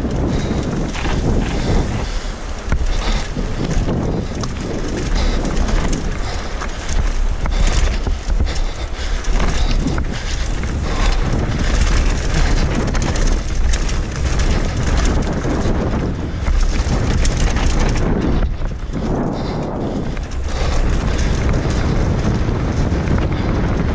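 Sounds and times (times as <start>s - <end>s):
bike rattling over bumps: 0.0s - 23.9s
tyres on loose ground: 0.0s - 23.9s
wind buffeting microphone: 0.0s - 23.9s.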